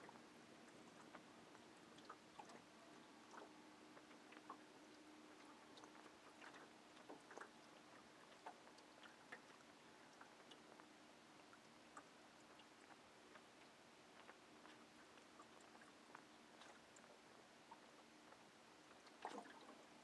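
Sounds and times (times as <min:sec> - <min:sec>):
faint low hum and hiss: 0:00.0 - 0:20.0.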